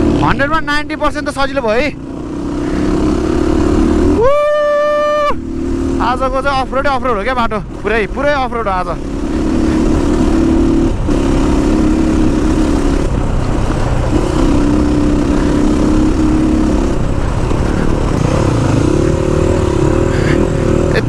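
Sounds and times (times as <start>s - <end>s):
motorcycle engine: 0.0s - 21.0s.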